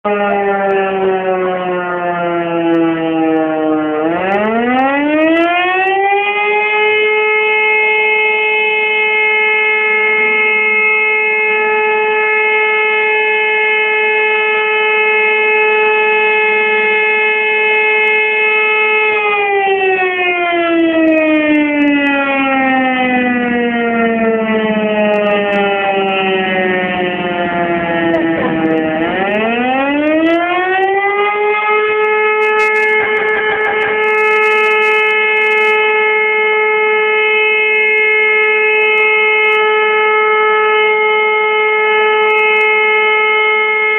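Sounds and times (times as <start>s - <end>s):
fire station siren wailing: 0.0s - 43.9s.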